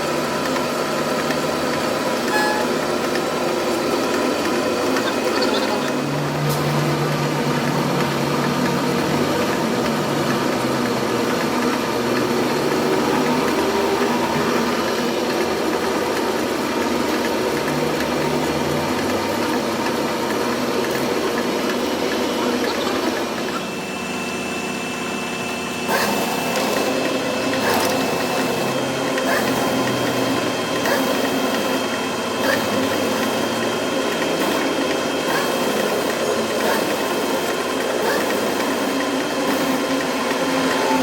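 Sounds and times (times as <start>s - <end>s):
workshop machine droning: 0.0s - 41.0s.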